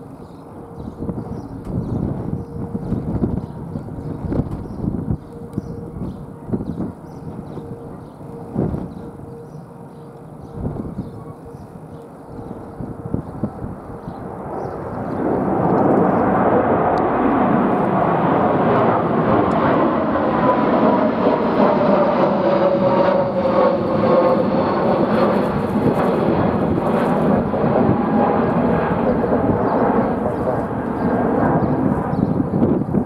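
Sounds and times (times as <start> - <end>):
falling engine whine: 0.0 - 33.0
jet engine roar: 0.0 - 33.0.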